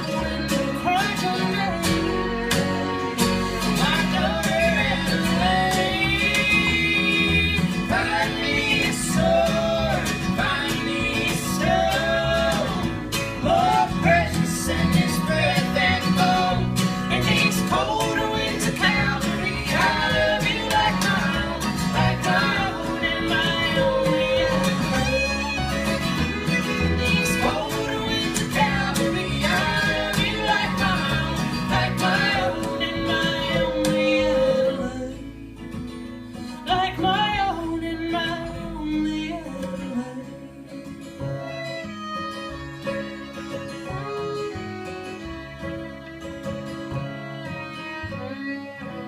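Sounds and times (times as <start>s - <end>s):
fiddle and guitar bluegrass music: 0.0s - 49.0s.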